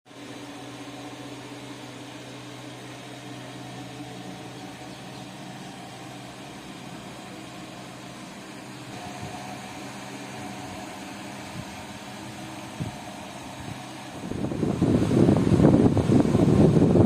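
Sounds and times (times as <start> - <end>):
machine hum with hiss: 0.1 - 17.0.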